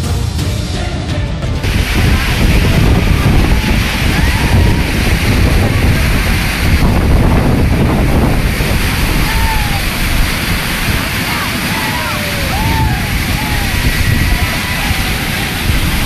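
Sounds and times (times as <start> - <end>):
water roaring from spillway: 1.6 - 16.0
wind buffeting microphone: 1.6 - 16.0.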